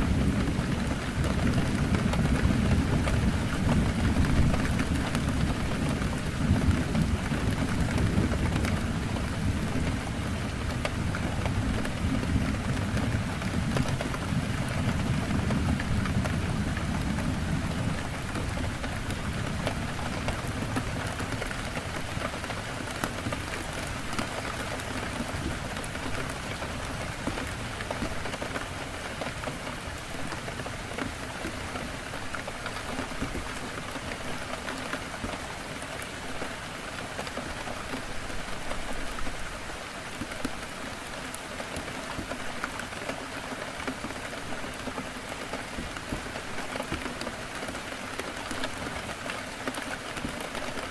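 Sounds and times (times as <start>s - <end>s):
heavy rain on a window: 0.0s - 50.9s.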